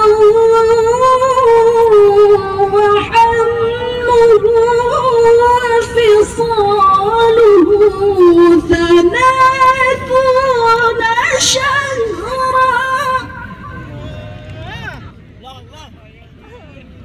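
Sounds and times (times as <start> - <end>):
woman reciting melodically: 0.0 - 13.8.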